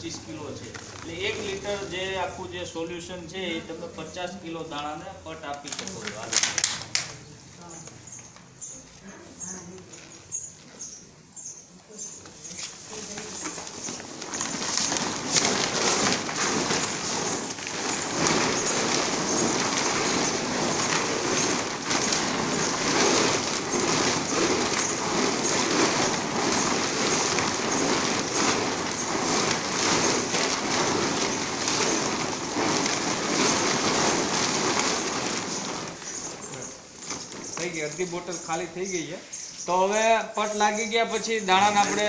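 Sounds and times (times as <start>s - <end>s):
plastic sheet rustling: 0.0s - 11.4s, 12.0s - 42.0s
seeds rattling on plastic sheet: 0.0s - 11.4s, 12.0s - 42.0s.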